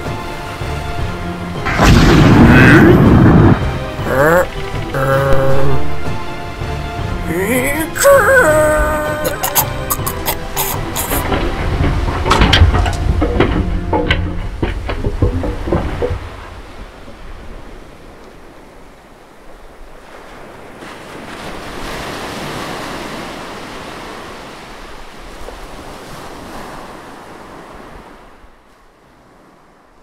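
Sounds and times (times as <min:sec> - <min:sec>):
ocean waves washing: 0:00.0 - 0:30.0.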